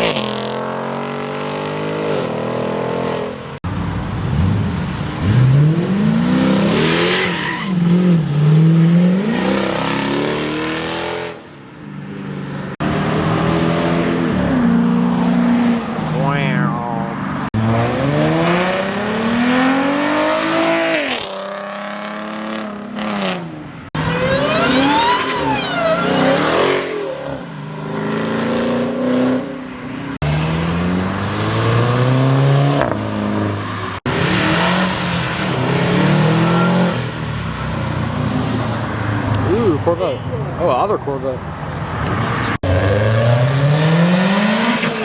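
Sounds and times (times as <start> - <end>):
car engines revving and shifting: 0.0 - 3.6, 4.2 - 39.9, 41.4 - 45.0.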